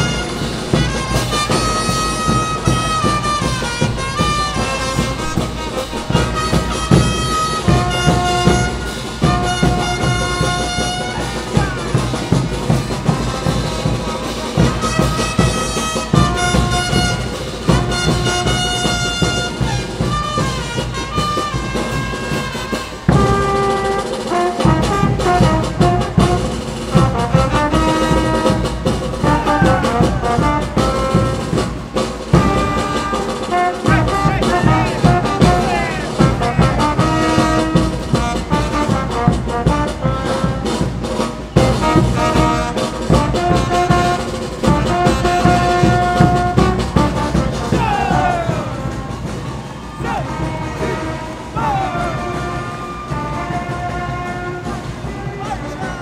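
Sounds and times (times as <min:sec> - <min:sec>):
brass band music: 0:00.0 - 0:56.0
steady drumbeat: 0:00.0 - 0:56.0.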